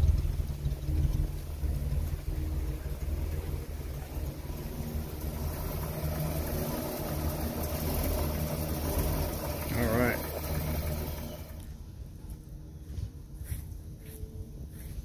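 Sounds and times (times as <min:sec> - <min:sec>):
car engine idling quietly: 0:00.0 - 0:13.2.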